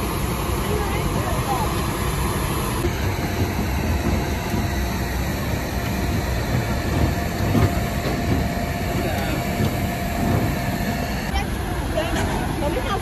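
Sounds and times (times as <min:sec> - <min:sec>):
machinery low rumble: 0:00.0 - 0:13.0.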